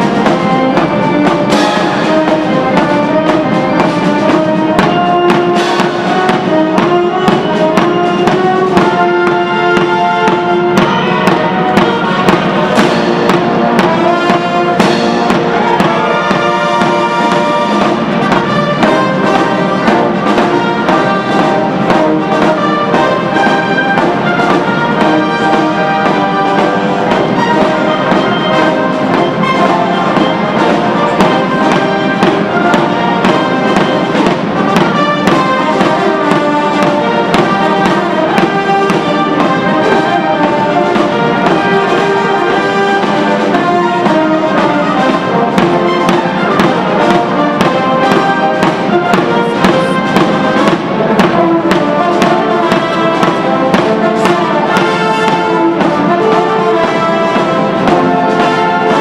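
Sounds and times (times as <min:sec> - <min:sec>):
brass band playing a march: 0:00.0 - 0:59.0.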